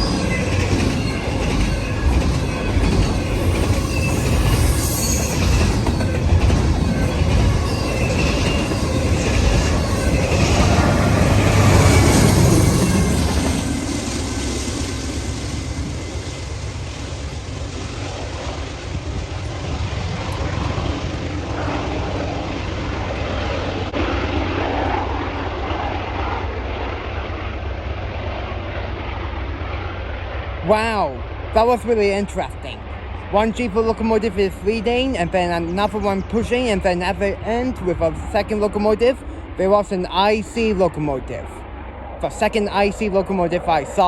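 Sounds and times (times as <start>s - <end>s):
diesel locomotive engine drone: 0.0s - 44.0s.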